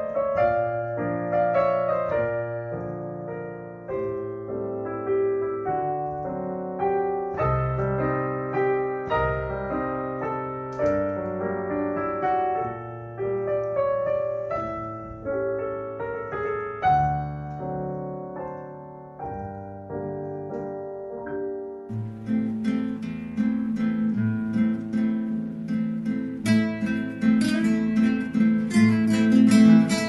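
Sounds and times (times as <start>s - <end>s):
piano melody: 0.0s - 30.0s.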